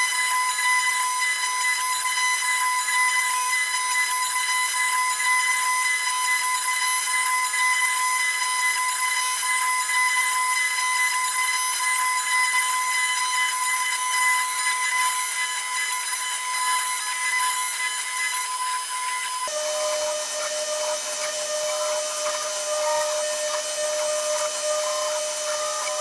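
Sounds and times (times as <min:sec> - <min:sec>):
router spindle motor whining: 0:00.0 - 0:26.0
bit cutting into wood: 0:00.3 - 0:26.0.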